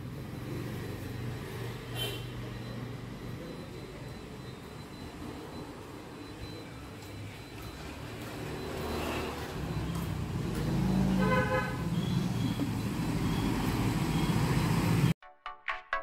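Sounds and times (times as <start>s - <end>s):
minibus engine passing: 0.0s - 15.2s
street traffic: 0.0s - 15.2s.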